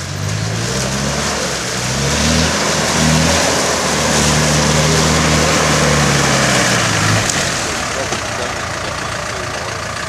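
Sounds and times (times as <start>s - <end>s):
engine pulling under load: 0.0s - 10.0s.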